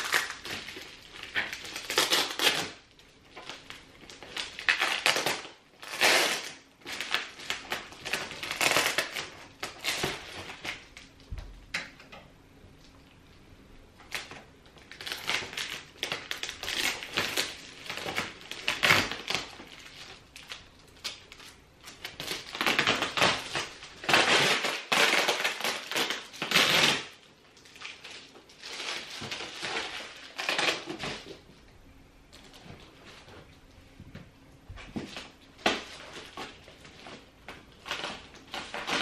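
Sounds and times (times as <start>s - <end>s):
foil insulation wrap crinkling: 0.0s - 11.3s, 14.0s - 31.6s, 32.3s - 33.7s, 34.8s - 39.0s.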